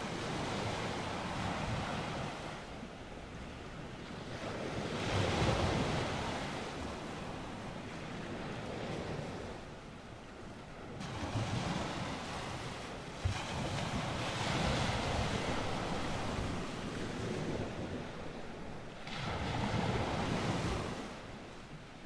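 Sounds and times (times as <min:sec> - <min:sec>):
ocean waves: 0:00.0 - 0:22.0.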